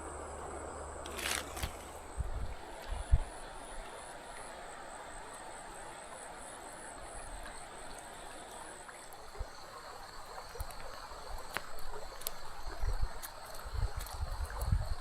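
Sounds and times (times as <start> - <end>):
faint high insect drone: 0.0 - 15.0
river water flowing: 0.0 - 15.0.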